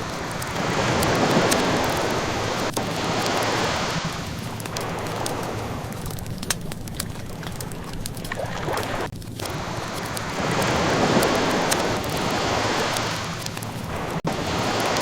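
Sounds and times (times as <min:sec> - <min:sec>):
ocean waves washing ashore: 0:00.0 - 0:15.0
wood fire crackling: 0:00.0 - 0:15.0.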